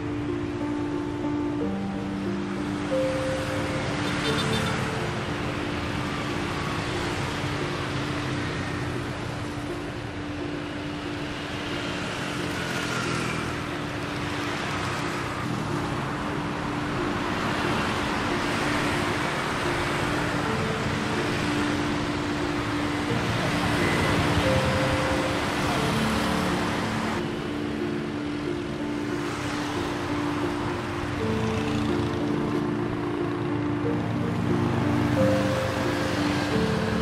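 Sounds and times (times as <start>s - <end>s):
motorbikes and scooters passing: 0.0s - 37.0s.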